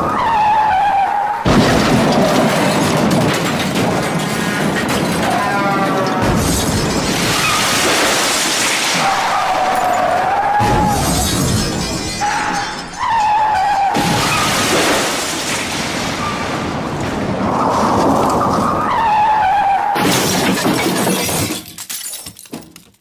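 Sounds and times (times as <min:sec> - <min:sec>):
debris clattering: 0:01.4 - 0:18.9, 0:20.0 - 0:23.0
loud crashing and shattering: 0:01.4 - 0:23.0.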